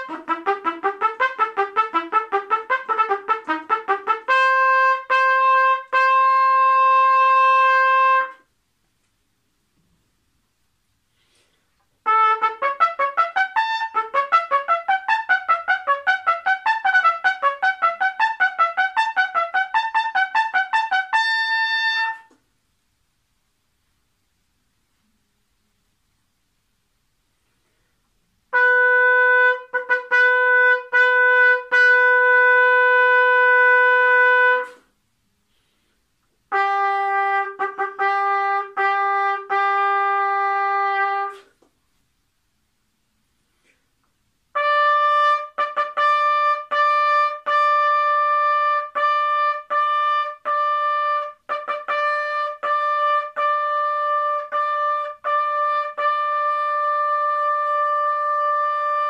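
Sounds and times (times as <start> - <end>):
trumpet playing repeated notes: 0.0 - 8.6, 11.2 - 22.4, 28.4 - 41.6, 44.5 - 59.0.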